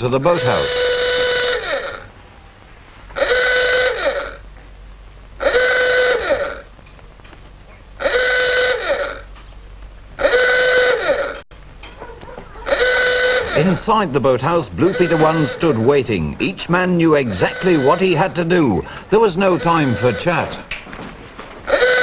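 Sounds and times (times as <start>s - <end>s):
klaxon blasts: 0.0s - 6.8s, 7.8s - 9.3s, 10.1s - 11.4s, 12.5s - 20.7s, 21.7s - 22.0s.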